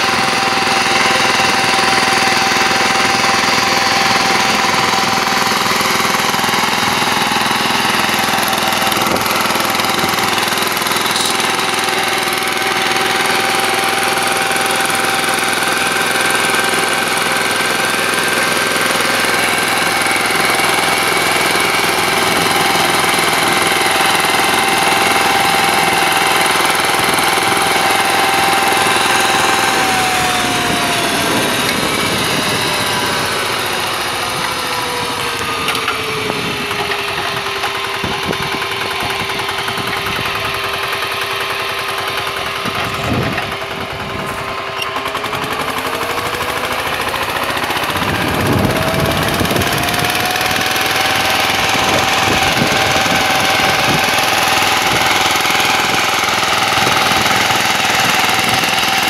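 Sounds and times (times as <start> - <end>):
diesel engine running under load: 0.0 - 59.0
tines churning soil: 0.0 - 59.0.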